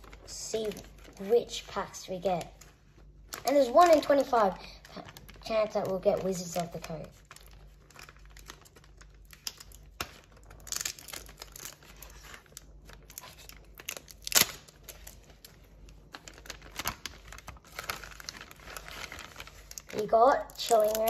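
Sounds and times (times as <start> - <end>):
foil wrappers crinkling: 0.0 - 21.0.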